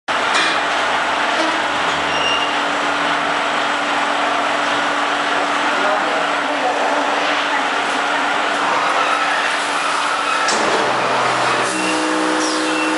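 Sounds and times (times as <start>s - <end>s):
car wash machine hissing: 0.1s - 12.9s
low machine hum: 0.1s - 12.9s.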